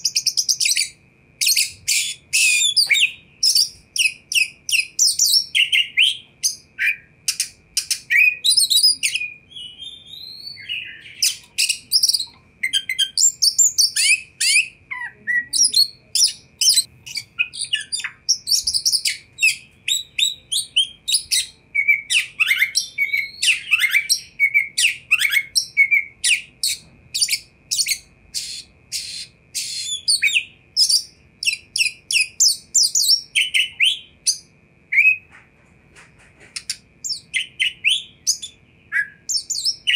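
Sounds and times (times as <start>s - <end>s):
bird singing whistles and chirps: 0.0s - 35.3s, 36.6s - 39.9s.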